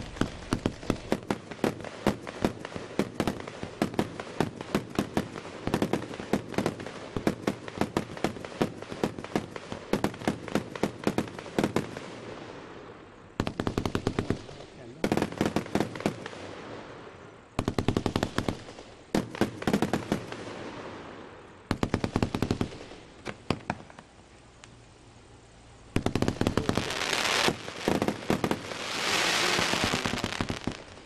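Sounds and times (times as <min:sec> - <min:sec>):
fireworks bangs: 0:00.0 - 0:12.6, 0:13.4 - 0:17.0, 0:17.6 - 0:24.1, 0:25.9 - 0:31.0
fireworks hissing rush: 0:00.0 - 0:31.0.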